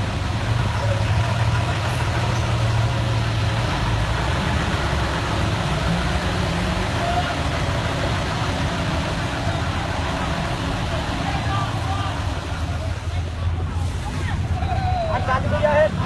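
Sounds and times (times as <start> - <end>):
vehicle engine running: 0.0 - 16.0
rain and water hiss: 0.1 - 14.7.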